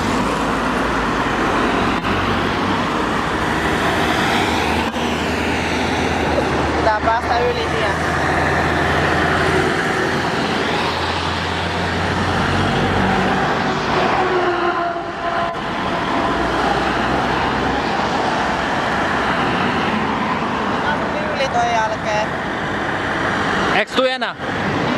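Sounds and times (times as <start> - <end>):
heavy trucks driving past: 0.0 - 24.9.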